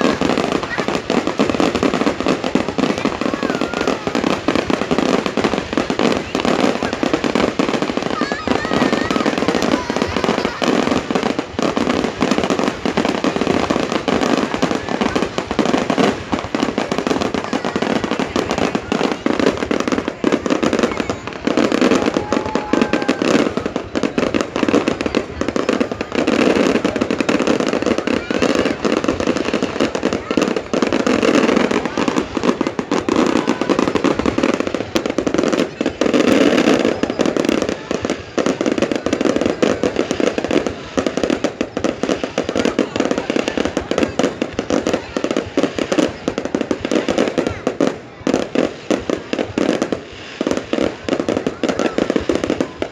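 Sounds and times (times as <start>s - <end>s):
crowd voices: 0.0s - 52.9s
fireworks bangs and crackles: 0.0s - 52.9s.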